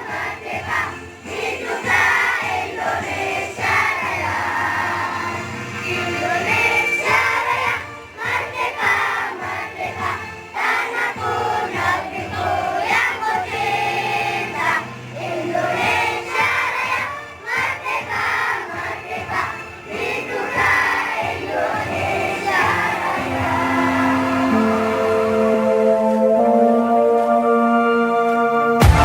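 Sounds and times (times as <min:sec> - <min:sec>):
song with singing voices: 0:00.0 - 0:29.0.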